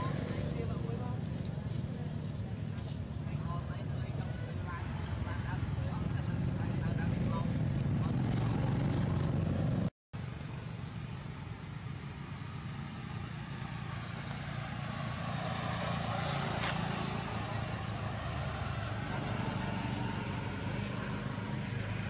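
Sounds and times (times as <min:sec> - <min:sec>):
vehicle passing: 0:00.0 - 0:09.9, 0:12.4 - 0:22.0
road traffic noise: 0:00.0 - 0:22.0.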